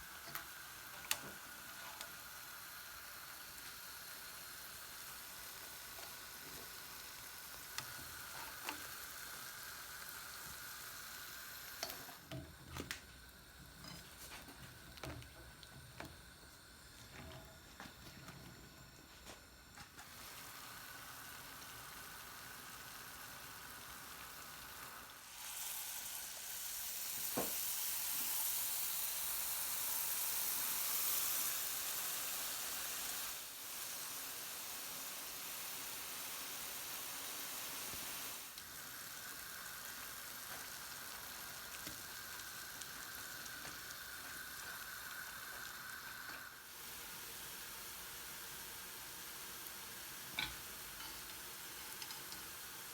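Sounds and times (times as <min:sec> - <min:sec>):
batter sizzling in hot oil: 0:00.0 - 0:52.9.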